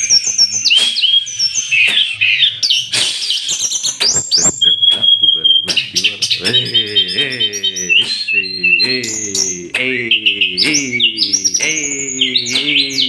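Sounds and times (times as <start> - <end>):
songbird chirping and trilling: 0.0 - 13.0
low bending bird call: 0.7 - 13.0.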